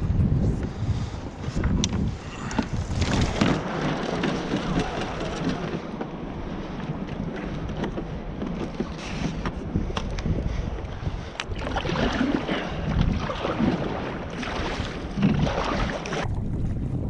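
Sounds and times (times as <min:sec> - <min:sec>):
water rushing and splashing on hull: 0:00.0 - 0:17.0
wind buffeting microphone: 0:00.0 - 0:17.0.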